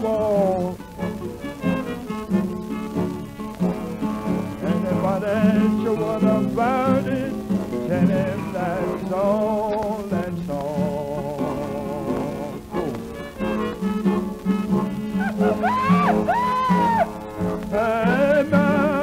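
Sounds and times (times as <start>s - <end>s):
accordion melody: 0.0s - 19.0s
guitars strumming: 0.0s - 19.0s
old blues record: 0.0s - 19.0s.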